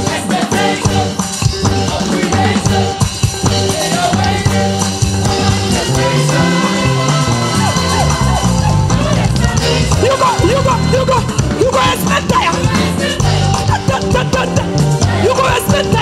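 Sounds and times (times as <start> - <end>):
bass guitar: 0.0 - 16.0
drum kit: 0.0 - 16.0
people singing into microphones: 0.0 - 16.0.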